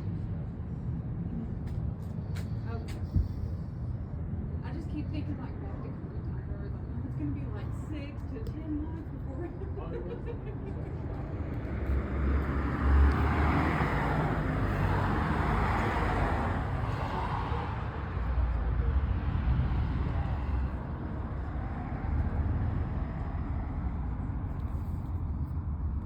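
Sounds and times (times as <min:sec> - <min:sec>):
low rumble with road noise: 0:00.0 - 0:26.0.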